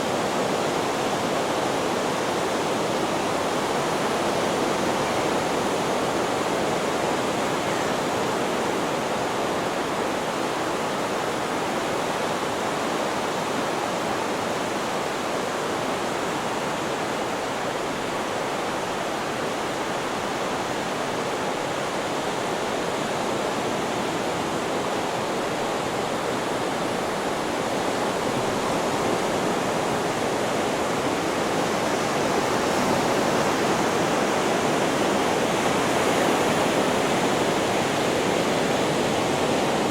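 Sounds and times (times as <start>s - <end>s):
ocean waves: 0.0s - 39.9s
white noise: 0.0s - 39.9s.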